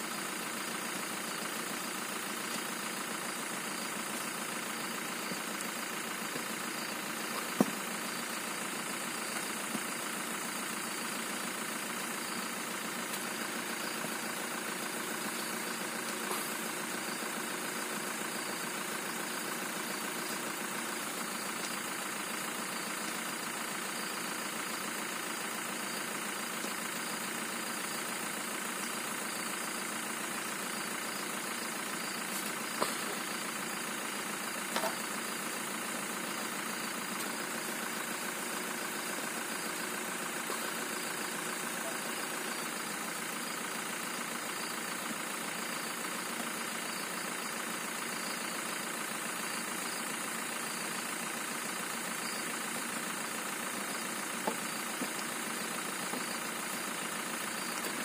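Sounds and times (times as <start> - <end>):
van engine idling: 0.0 - 58.0.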